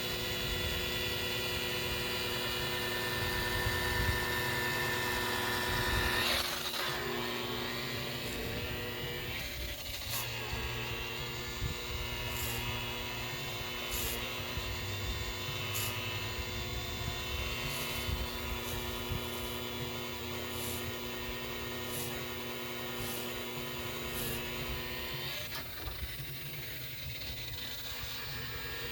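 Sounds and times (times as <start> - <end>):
electric buffer motor hum: 0.0 - 28.9.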